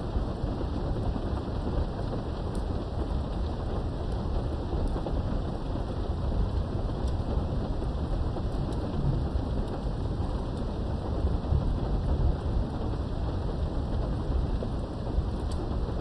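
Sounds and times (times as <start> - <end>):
steady rain through a window: 0.0 - 16.0.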